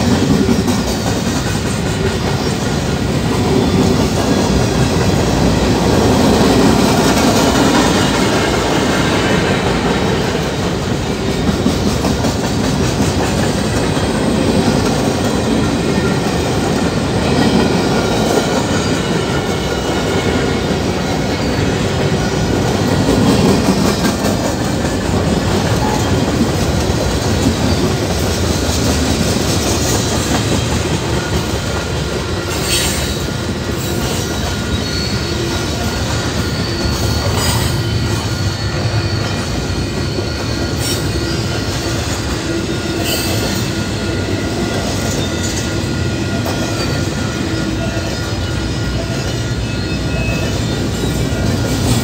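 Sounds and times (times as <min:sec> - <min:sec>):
freight train wheels on rail: 0:00.0 - 0:52.0.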